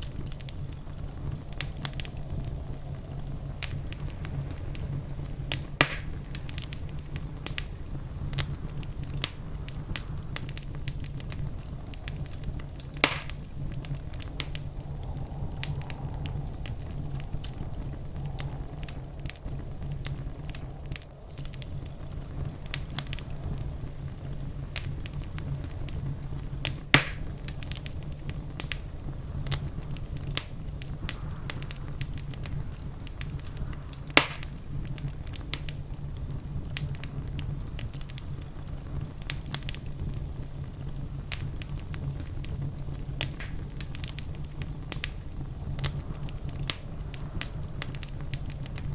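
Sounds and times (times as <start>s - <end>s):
low rumble of burning: 0.0s - 48.9s
wood fire crackling: 0.0s - 48.9s.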